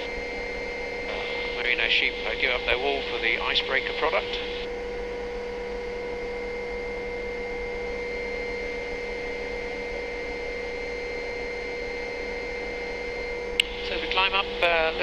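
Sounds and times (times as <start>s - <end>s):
constant whining tones: 0.0s - 15.0s
helicopter cabin drone: 0.0s - 15.0s.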